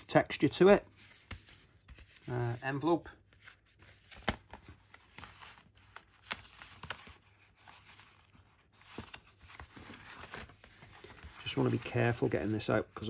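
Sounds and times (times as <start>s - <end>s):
paper envelope rustling: 1.0s - 13.0s.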